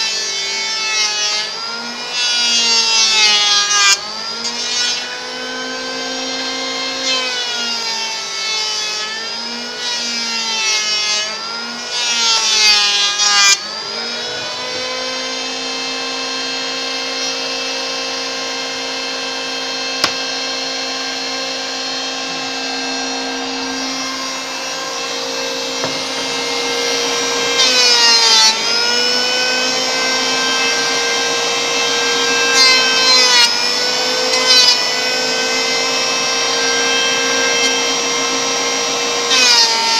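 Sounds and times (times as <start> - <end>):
electric wood planer whining: 0.0 - 39.9.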